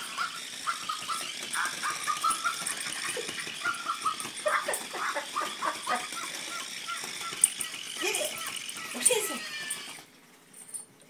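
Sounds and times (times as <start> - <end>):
small dogs yipping: 0.0 - 10.0.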